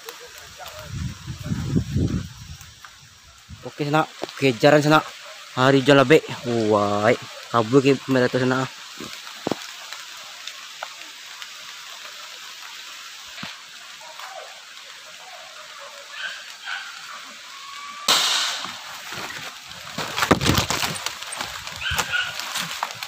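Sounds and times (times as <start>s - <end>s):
heavy rain on foliage: 0.0s - 23.0s
leaves rustling and crackling: 0.0s - 23.0s.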